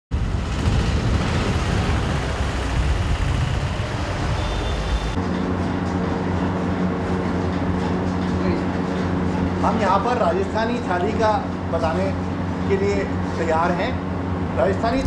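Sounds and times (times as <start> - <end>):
kitchen machine hum: 0.1 - 15.0
street traffic rumble: 0.1 - 15.0.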